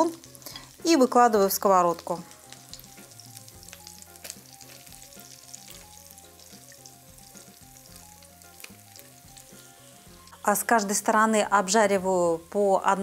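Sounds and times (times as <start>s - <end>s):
bread sizzling in a pan: 0.0s - 13.0s
soft background music: 0.0s - 13.0s.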